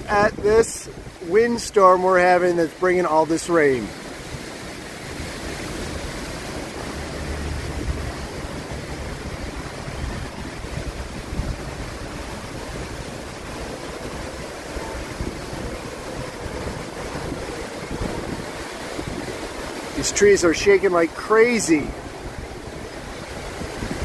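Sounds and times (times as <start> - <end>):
gusty wind through trees: 0.0 - 24.0
rain: 0.0 - 24.0
wind buffeting microphone: 0.0 - 24.0.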